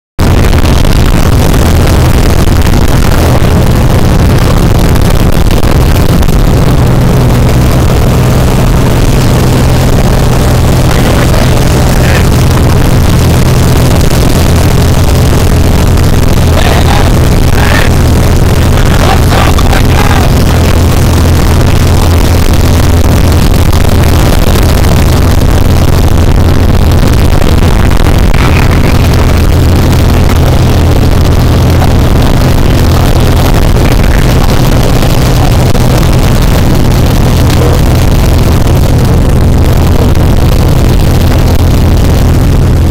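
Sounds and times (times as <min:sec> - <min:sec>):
propeller plane engine drone: 0:00.2 - 0:42.9.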